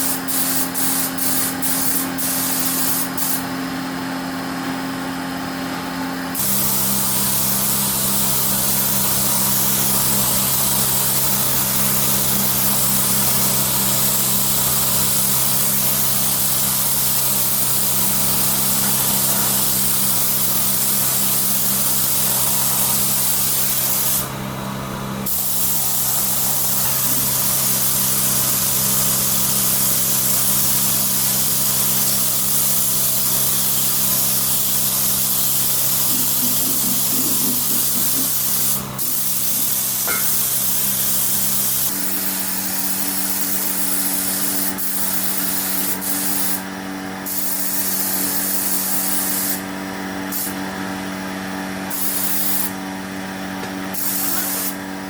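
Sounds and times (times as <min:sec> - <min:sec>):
compressed air spray hissing: 0:00.0 - 0:03.5, 0:06.4 - 0:24.3, 0:25.2 - 0:49.7, 0:50.3 - 0:50.6, 0:51.9 - 0:52.8, 0:53.9 - 0:54.8.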